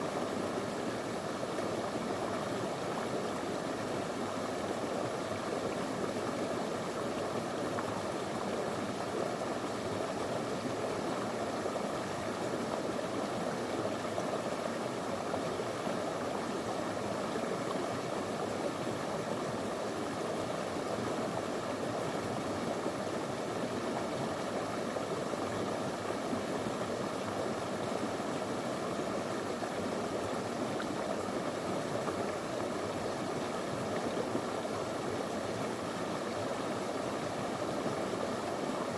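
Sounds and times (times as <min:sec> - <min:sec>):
river burbling over stones: 0:00.0 - 0:38.9.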